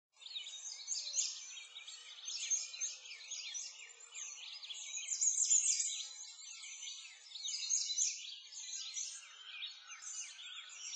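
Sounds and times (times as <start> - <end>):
songbirds chirping and trilling: 0.2 - 10.9.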